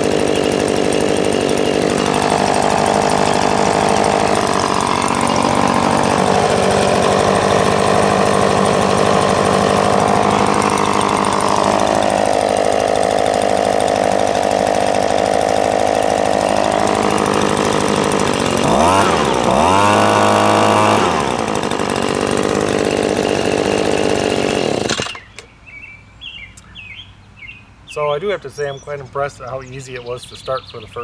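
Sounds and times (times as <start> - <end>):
leaf blower engine running: 0.0 - 25.5.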